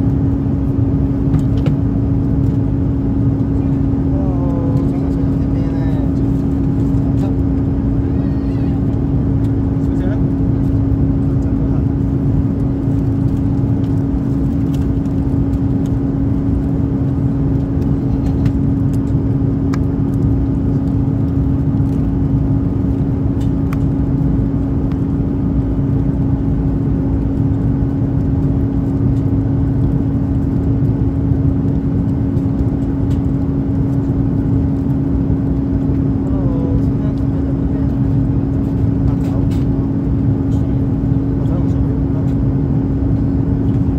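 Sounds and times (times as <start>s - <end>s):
airliner cabin engine drone: 0.0s - 43.9s.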